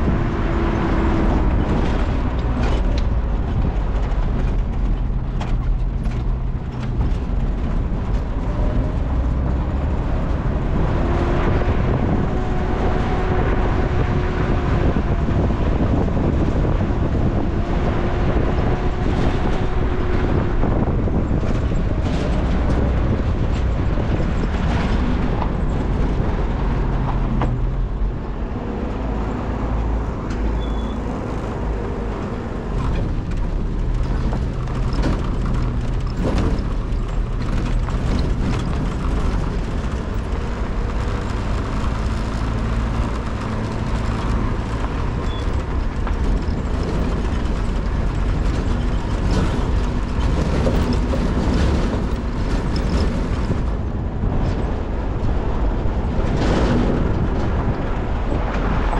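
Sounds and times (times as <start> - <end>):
heavy low rumble: 0.0 - 58.9
vehicle engine running: 0.0 - 58.9.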